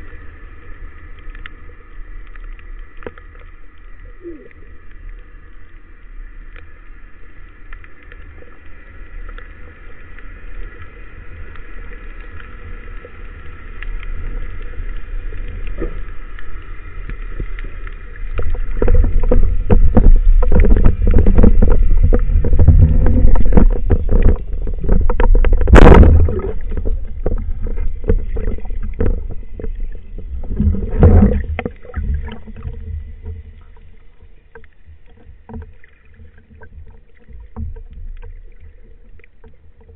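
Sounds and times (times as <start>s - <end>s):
water rushing underwater: 0.0s - 39.9s.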